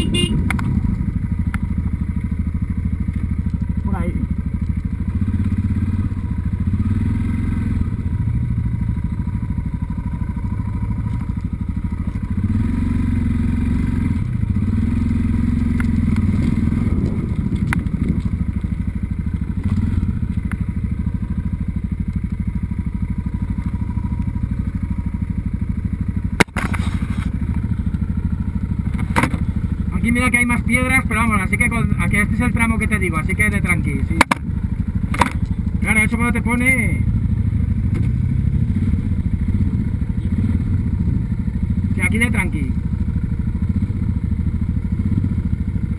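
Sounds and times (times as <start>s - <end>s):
motorcycle engine on gravel: 0.0s - 45.9s.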